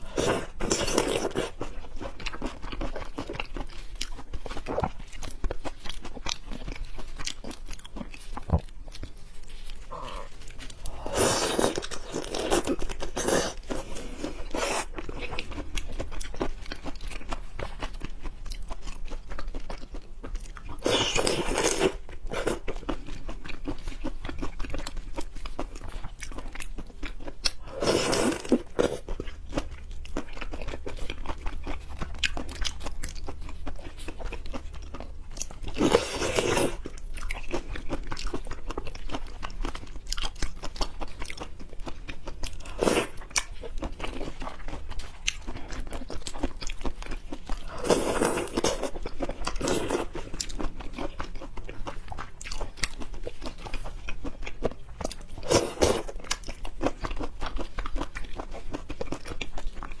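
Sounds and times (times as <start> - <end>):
wet chewing: 0.0 - 60.0.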